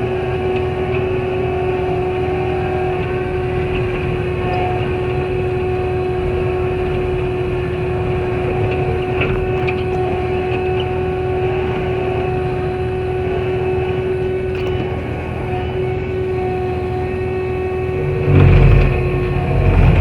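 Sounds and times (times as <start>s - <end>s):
engine and brush cutter drone: 0.0s - 20.0s.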